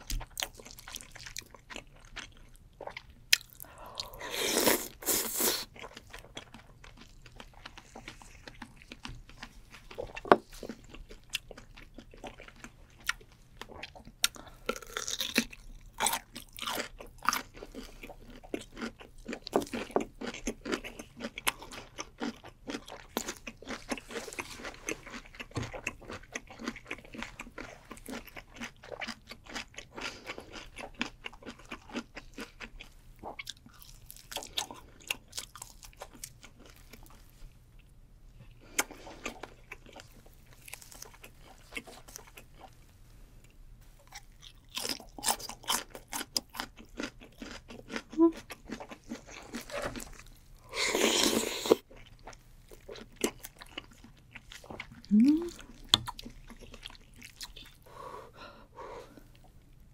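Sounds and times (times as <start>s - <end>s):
chewing and crunching: 0.0s - 57.9s.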